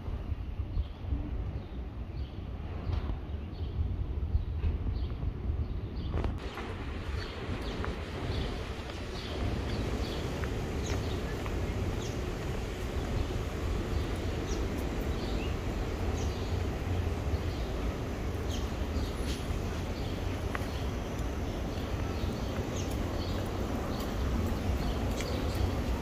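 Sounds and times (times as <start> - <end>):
traffic rumble: 0.0 - 26.0
small birds chirping: 0.5 - 26.0.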